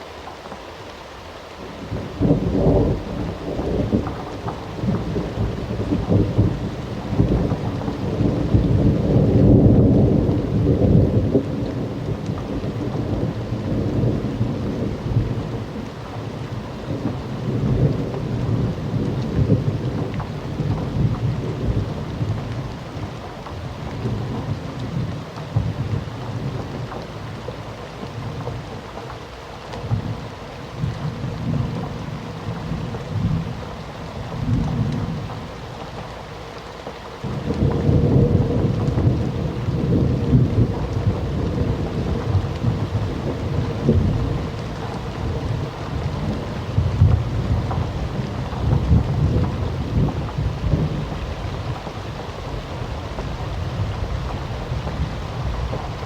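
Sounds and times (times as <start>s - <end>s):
heavy rain: 0.0s - 56.0s
rolling thunder: 1.6s - 28.9s, 29.8s - 36.0s, 37.2s - 56.0s.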